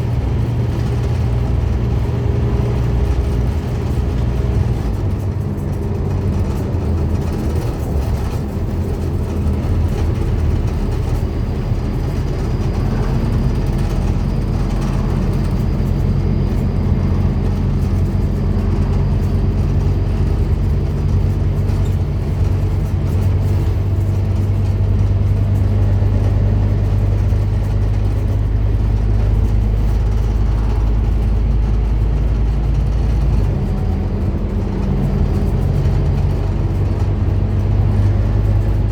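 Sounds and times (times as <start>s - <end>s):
bus diesel engine drone: 0.0s - 38.9s
road noise: 0.0s - 38.9s.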